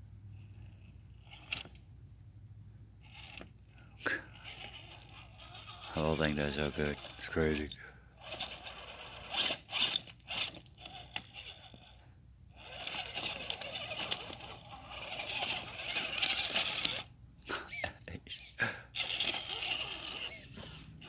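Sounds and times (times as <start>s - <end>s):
toy car motor whirring: 0.2s - 21.0s.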